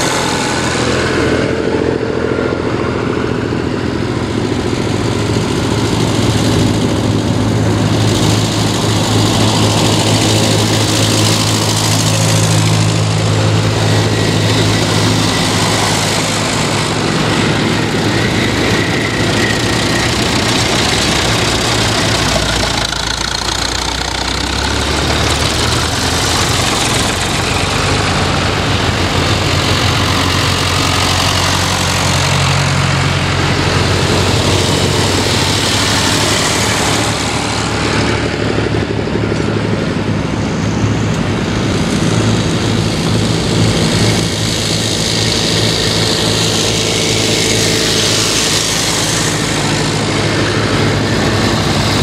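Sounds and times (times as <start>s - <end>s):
tractors driving past: 0.0s - 52.0s.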